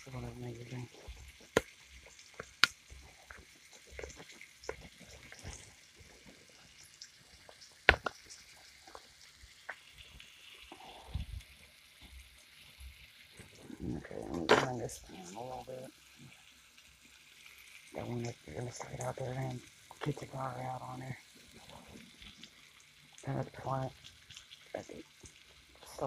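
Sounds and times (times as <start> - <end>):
oil popping and spattering: 0.0 - 26.0
pork chop frying in oil: 0.0 - 26.0.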